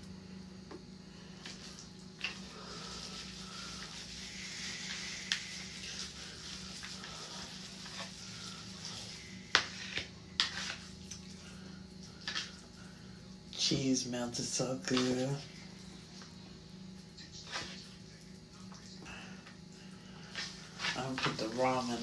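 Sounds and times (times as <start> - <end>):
steady low hum: 0.0 - 22.0
food being stirred in a dish: 1.4 - 22.0.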